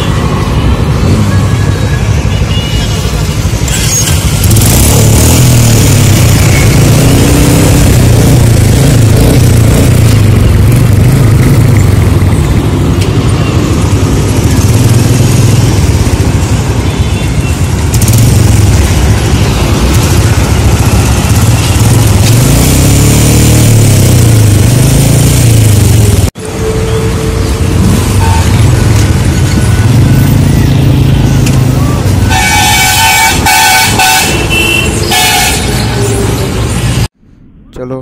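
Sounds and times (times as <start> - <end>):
motorcycle engines revving: 0.0 - 37.2.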